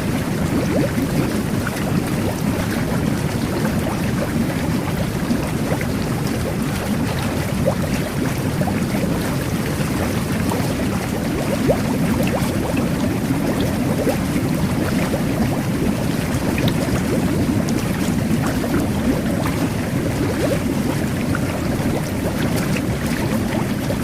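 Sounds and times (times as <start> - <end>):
bubbles bursting: 0.0 - 24.0
jet bath churning water: 0.0 - 24.0.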